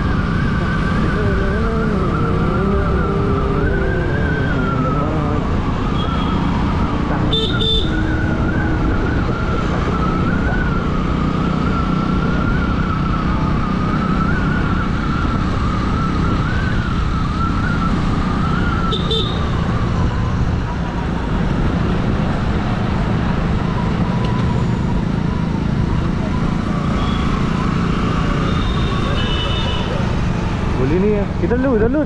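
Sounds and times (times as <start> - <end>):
wind rumble: 0.0 - 26.9.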